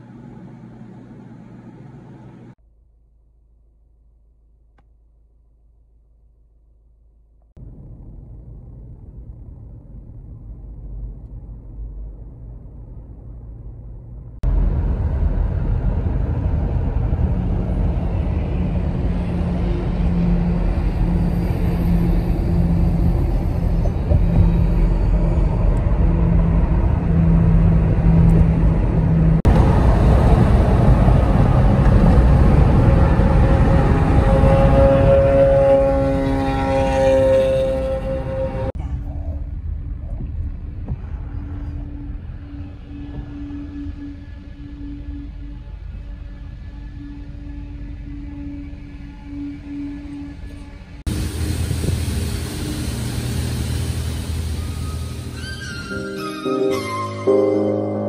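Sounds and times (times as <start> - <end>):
car engine and road rumble: 0.0 - 49.0.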